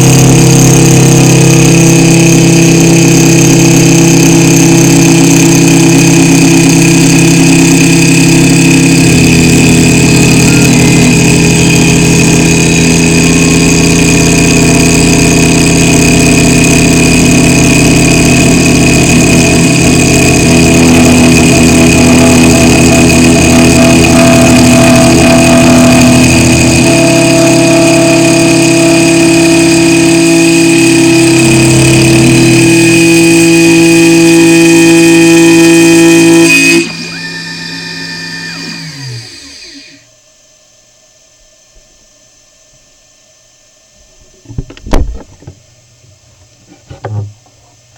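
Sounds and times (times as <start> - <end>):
spindle motor whining: 0.0 - 40.1
stepper axes humming: 0.0 - 40.1.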